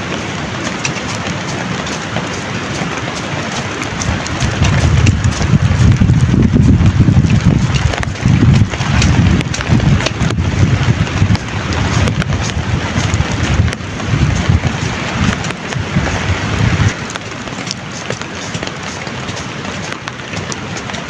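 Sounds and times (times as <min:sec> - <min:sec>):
heavy rain pouring: 0:00.0 - 0:21.0
wind buffeting microphone: 0:00.0 - 0:21.0.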